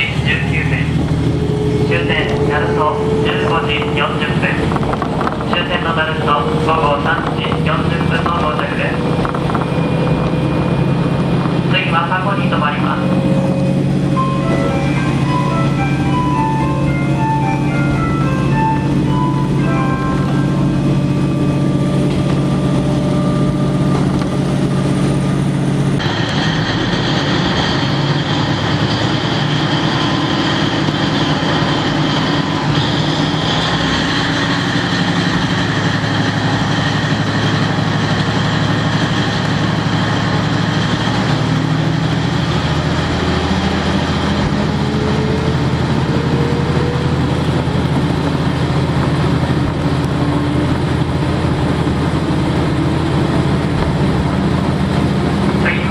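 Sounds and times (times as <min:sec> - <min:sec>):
diesel engine drone: 0:00.0 - 0:55.9
wheel and rail noise: 0:00.0 - 0:55.9.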